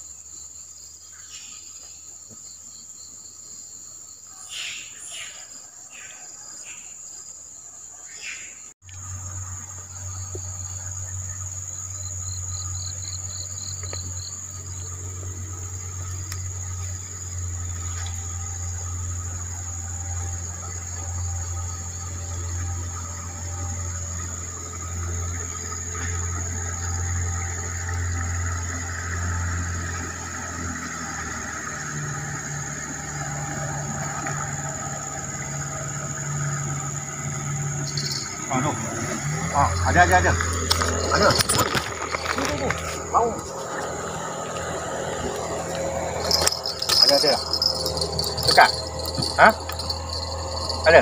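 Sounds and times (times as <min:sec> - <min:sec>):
insects buzzing: 0:00.0 - 0:51.0
boat motor droning: 0:08.9 - 0:51.0.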